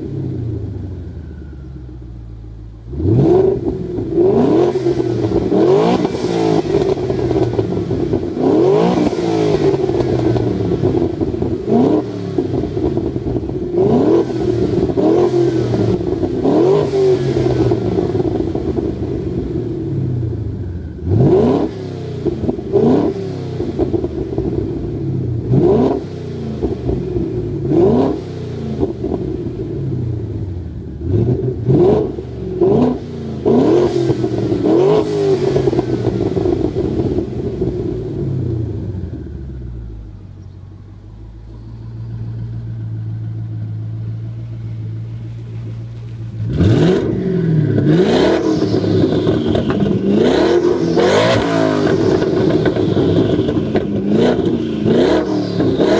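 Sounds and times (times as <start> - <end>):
car engine idling: 0.0 - 55.9
car engine revving: 0.0 - 55.9.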